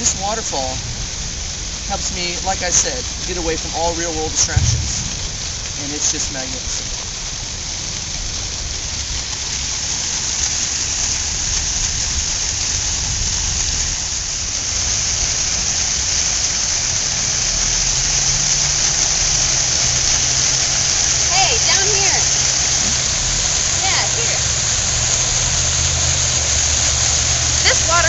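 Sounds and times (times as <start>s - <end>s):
waterfall hissing: 0.0s - 28.0s.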